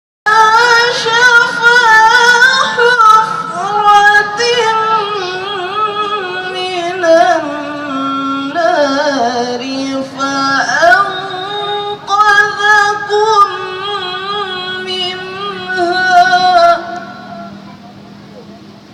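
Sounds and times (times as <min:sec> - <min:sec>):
woman reciting melodically: 0:00.3 - 0:17.8.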